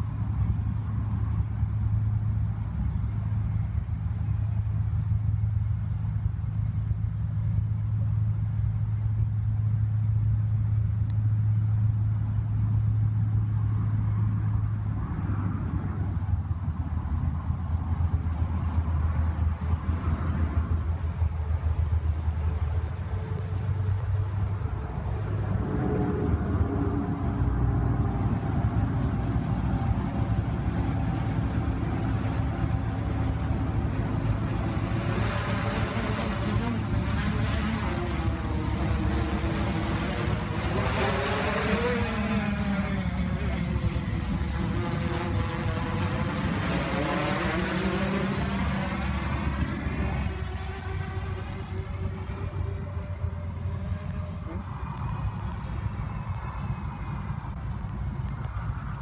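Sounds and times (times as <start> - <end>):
quadcopter drone: 0.0 - 59.0.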